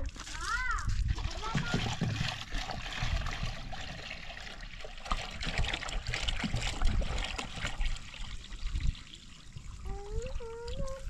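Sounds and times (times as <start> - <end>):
water pouring into metal pot: 0.0 - 11.0.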